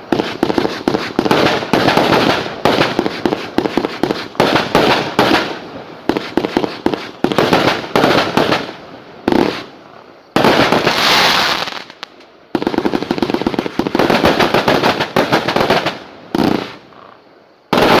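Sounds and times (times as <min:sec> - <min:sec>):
firework hissing: 0:00.0 - 0:16.8, 0:17.6 - 0:18.0
firework crackling: 0:00.0 - 0:16.9, 0:17.6 - 0:18.0.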